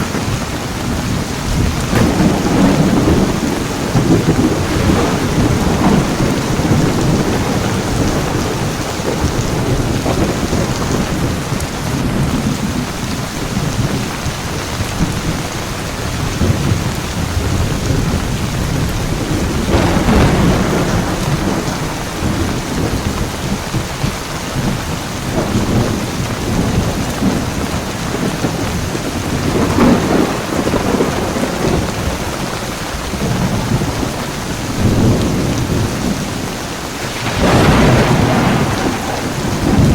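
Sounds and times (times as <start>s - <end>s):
heavy rain falling: 0.0s - 39.9s
thunder rolling: 0.0s - 39.9s.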